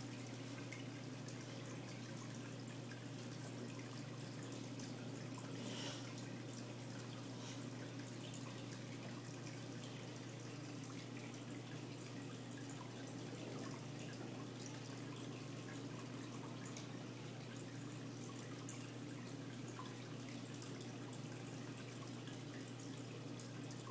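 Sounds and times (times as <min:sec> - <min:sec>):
low steady pump hum: 0:00.0 - 0:23.9
water trickling and dripping: 0:00.0 - 0:23.9.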